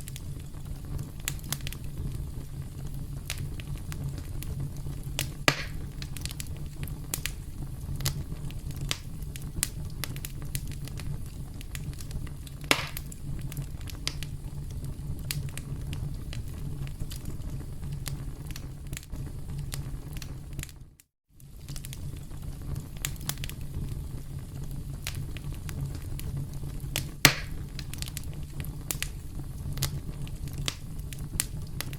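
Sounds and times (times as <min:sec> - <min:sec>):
campfire crackling and popping: 0:00.0 - 0:31.9.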